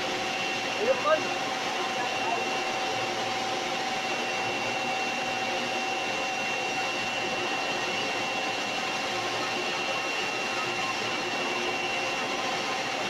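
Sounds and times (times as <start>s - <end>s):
welding machine hiss and whine: 0.0s - 13.0s.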